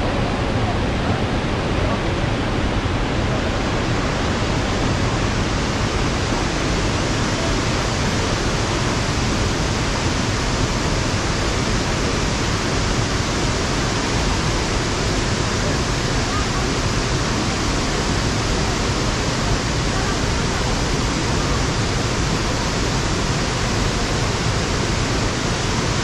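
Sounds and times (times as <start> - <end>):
waterfall: 0.0 - 26.0.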